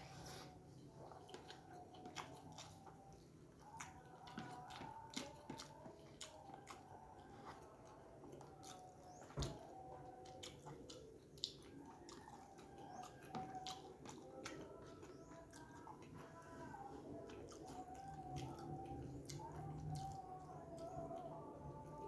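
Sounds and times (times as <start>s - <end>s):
close-up chewing of rice: 0.0s - 22.0s.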